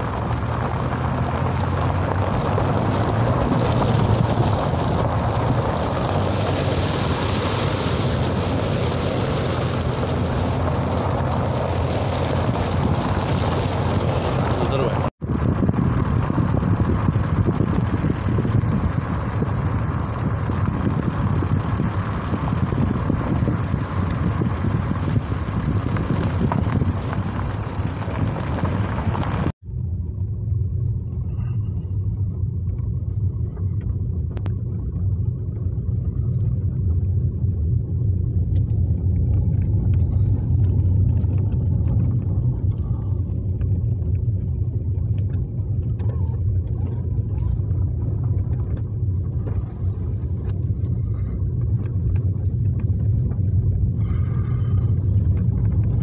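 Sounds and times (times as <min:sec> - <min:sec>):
wind buffeting microphone: 0:00.0 - 0:29.6, 0:31.2 - 0:56.0
car rumbling on unpaved road: 0:00.0 - 0:56.0.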